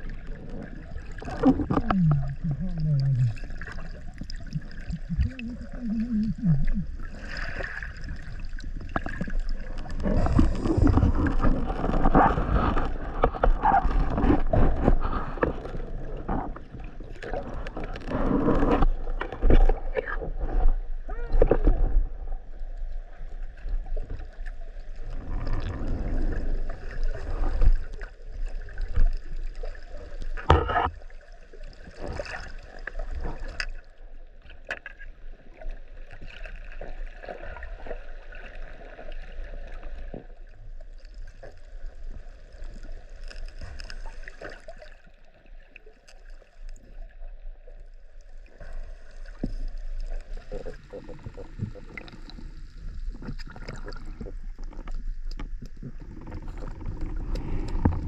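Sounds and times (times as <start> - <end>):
sea water sloshing and splashing: 0.0 - 58.0.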